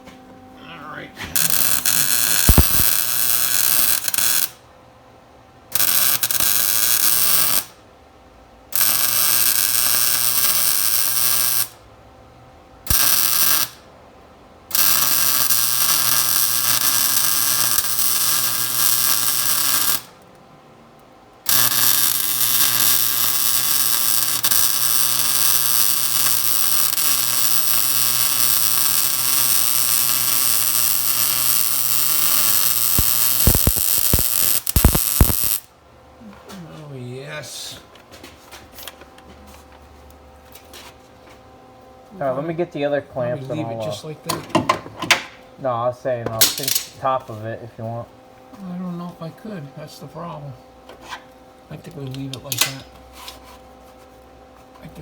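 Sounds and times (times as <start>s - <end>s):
arc welding crackling and buzzing: 0.7s - 4.7s, 5.7s - 7.9s, 8.6s - 11.9s, 12.8s - 13.9s, 14.6s - 20.4s, 21.4s - 41.4s, 46.4s - 47.7s, 48.5s - 55.0s.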